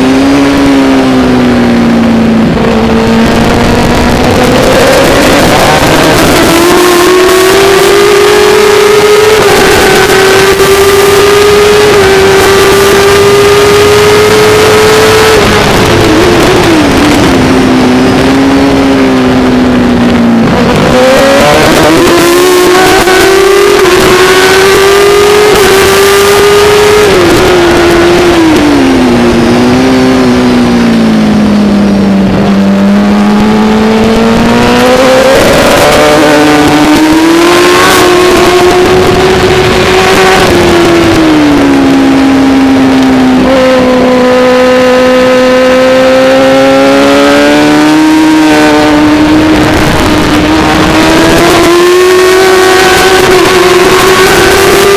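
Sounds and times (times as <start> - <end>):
racing motorcycle engine revving: 0.0 - 54.9
steady rush of noise: 0.0 - 54.9.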